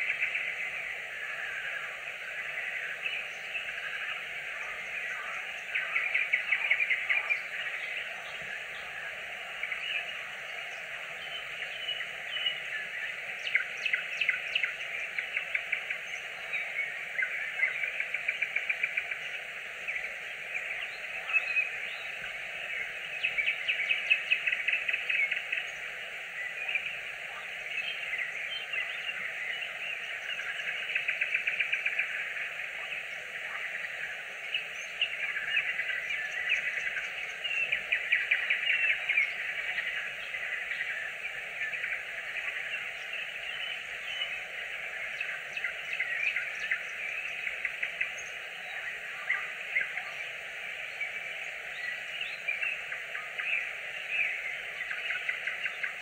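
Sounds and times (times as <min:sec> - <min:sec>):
nightingale singing: 0:00.0 - 0:56.0
steady background hiss: 0:00.0 - 0:56.0.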